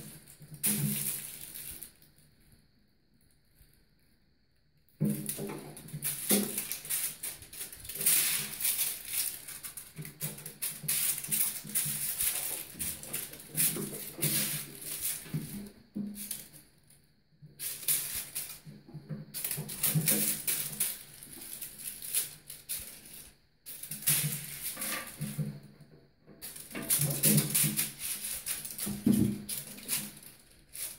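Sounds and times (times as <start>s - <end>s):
crinkle ball crackling and rattling: 0.0s - 4.0s, 4.9s - 30.9s.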